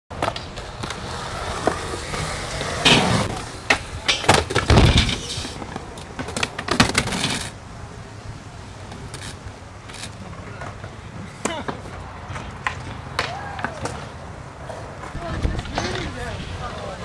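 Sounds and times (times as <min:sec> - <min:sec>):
skateboard clacks: 0:00.1 - 0:07.6, 0:08.8 - 0:17.0
skateboard wheels rolling on concrete: 0:00.1 - 0:17.0.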